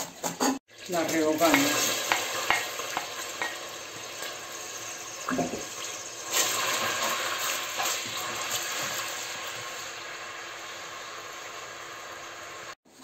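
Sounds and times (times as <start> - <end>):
onion sizzling in oil: 0.7 - 13.0.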